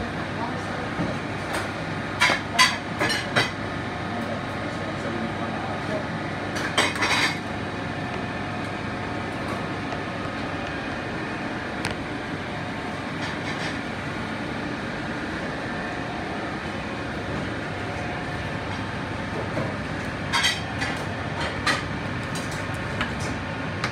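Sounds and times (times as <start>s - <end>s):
commercial kitchen rumble: 0.0s - 23.9s.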